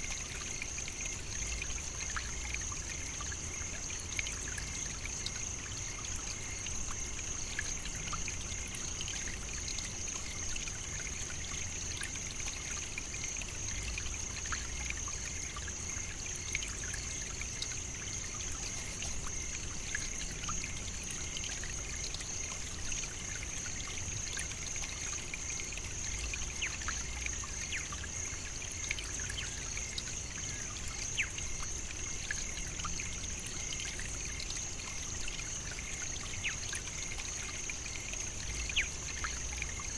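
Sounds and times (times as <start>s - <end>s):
steady high-pitched hiss: 0.0s - 39.9s.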